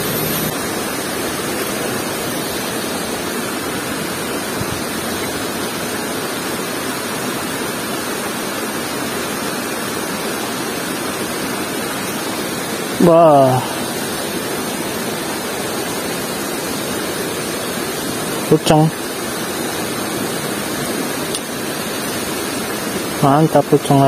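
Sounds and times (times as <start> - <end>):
river water running over rocks: 0.0 - 24.0.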